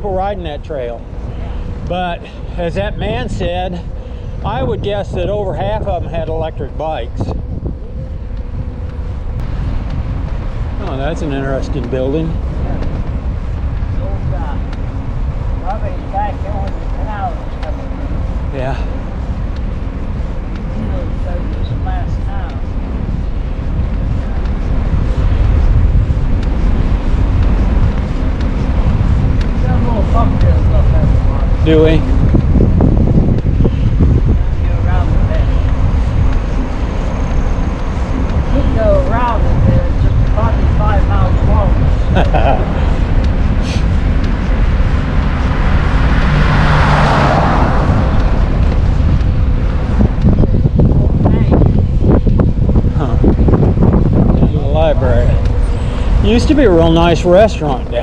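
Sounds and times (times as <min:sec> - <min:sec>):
car passing: 0:00.0 - 0:58.0
wind buffeting microphone: 0:00.0 - 0:58.0.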